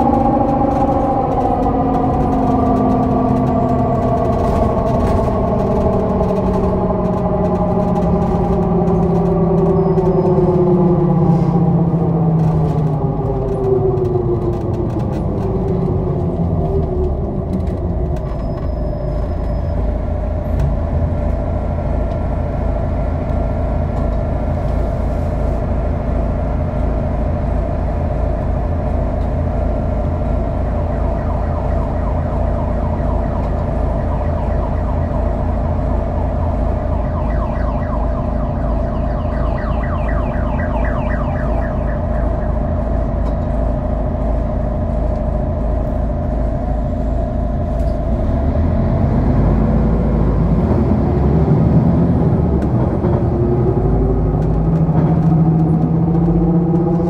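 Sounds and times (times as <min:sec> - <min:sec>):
bus gear whine: 0:00.0 - 0:57.0
low pulsing engine: 0:00.0 - 0:57.0.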